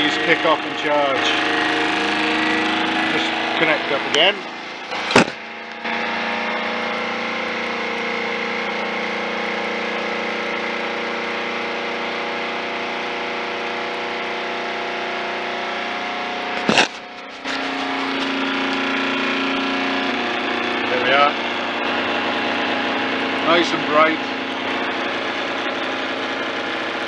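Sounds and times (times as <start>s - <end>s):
lathe gear whine: 0.0s - 27.0s.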